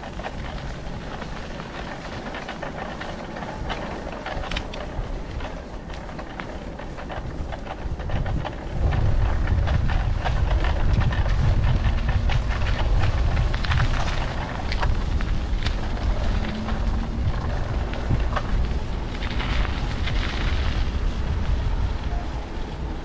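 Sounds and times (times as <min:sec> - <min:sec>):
small clicks and crackles: 0:00.0 - 0:23.0
wind buffeting microphone: 0:00.0 - 0:23.0.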